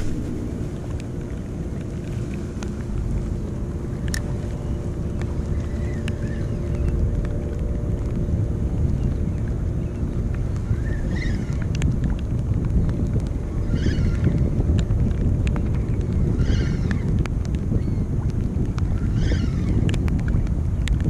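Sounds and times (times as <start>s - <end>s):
boat motor running: 0.0s - 21.0s
wind rumble on microphone: 0.0s - 21.0s.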